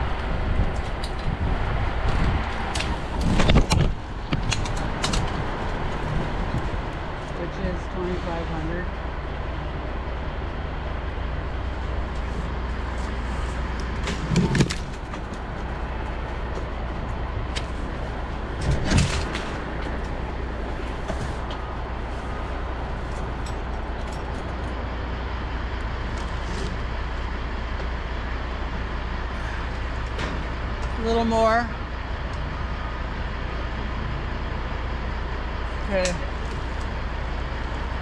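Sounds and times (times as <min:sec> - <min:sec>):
crane engine running: 0:00.0 - 0:38.0.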